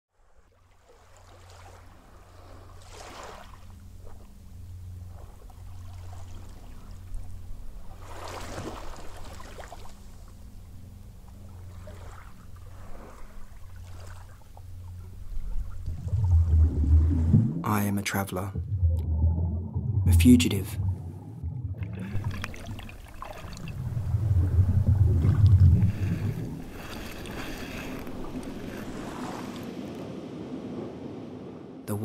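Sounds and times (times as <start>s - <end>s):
sea water sloshing: 0.5s - 31.8s
steady low hum: 3.5s - 32.0s.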